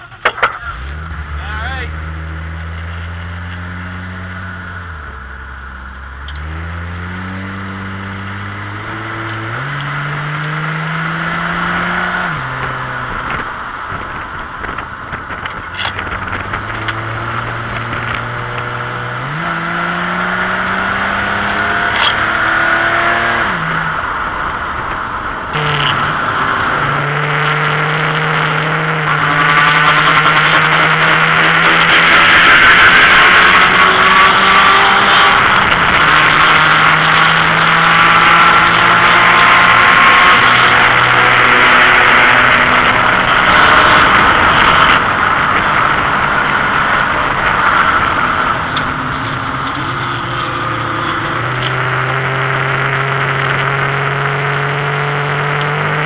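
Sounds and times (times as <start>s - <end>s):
car engine revving under throttle: 0.0s - 56.0s
wind and road noise: 0.0s - 56.0s.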